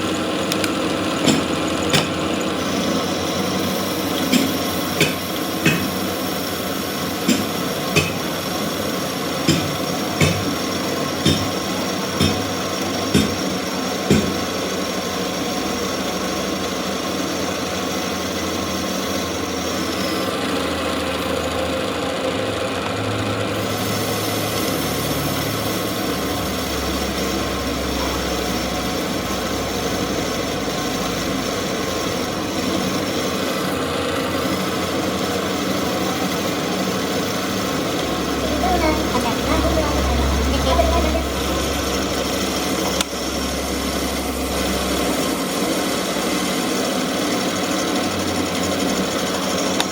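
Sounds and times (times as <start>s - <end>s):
workshop machinery running: 0.0s - 49.9s.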